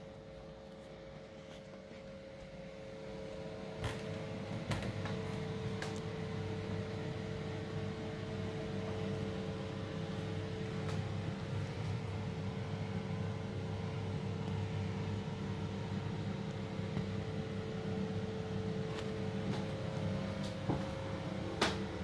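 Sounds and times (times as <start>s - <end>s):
extractor fan humming: 0.0s - 22.0s.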